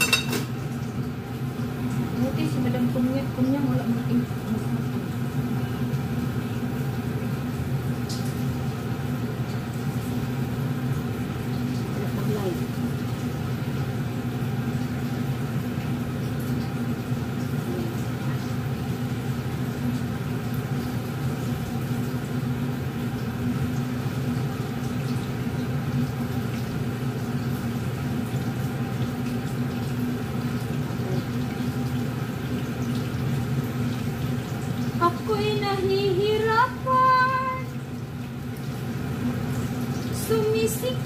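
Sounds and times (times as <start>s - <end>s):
range hood fan running: 0.0s - 41.0s.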